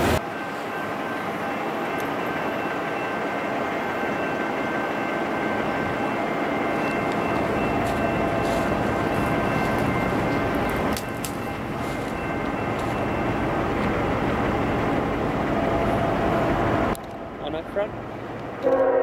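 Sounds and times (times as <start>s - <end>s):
distant train rumbling: 0.0s - 19.0s.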